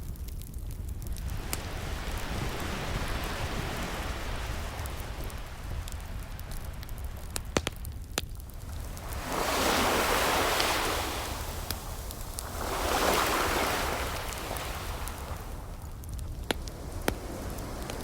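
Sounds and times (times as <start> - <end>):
wood fire crackling: 0.0 - 18.0
ocean waves washing in: 1.1 - 7.6, 8.5 - 18.0.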